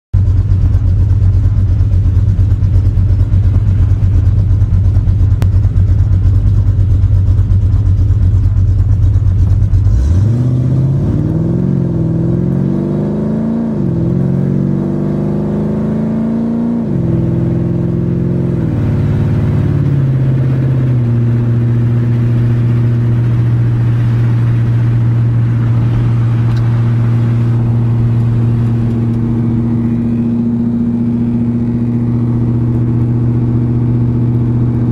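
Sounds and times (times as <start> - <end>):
car engine rumbling and revving: 0.2 - 34.9.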